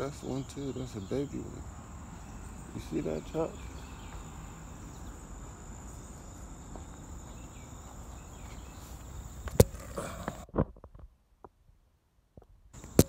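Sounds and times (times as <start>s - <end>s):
high insect chorus: 0.0s - 10.4s, 12.8s - 13.0s.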